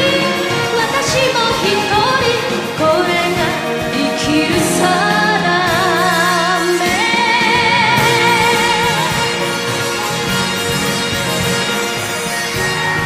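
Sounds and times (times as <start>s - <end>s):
ballad with vibrato melody: 0.0s - 13.0s.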